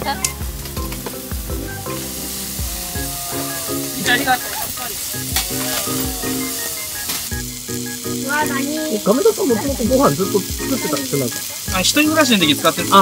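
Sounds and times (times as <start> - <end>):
food sizzling: 0.0 - 13.0
light background music: 0.0 - 13.0.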